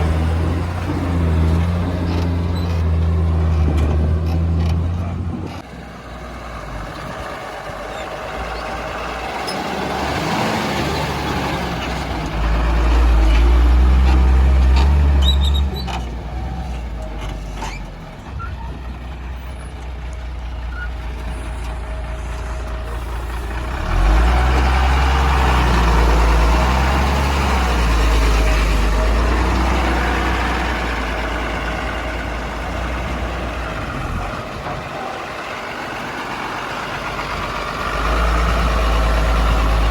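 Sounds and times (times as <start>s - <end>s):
backhoe diesel engine revving: 0.0s - 39.9s.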